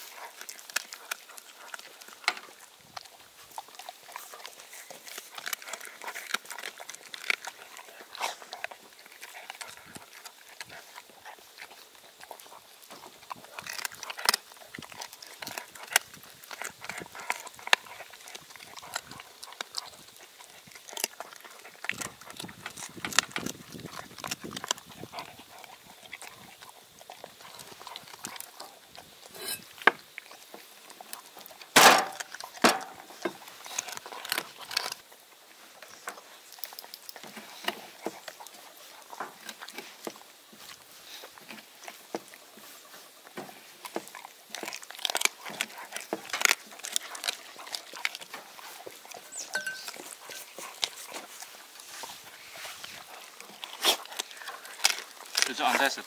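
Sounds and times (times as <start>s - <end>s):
dog chewing wetly: 0.0s - 56.0s.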